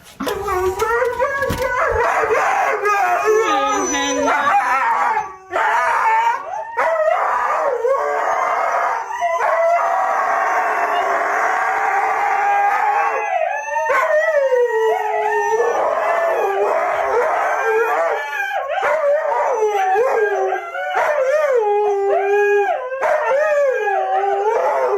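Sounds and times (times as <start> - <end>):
dog howling: 0.2 - 24.9.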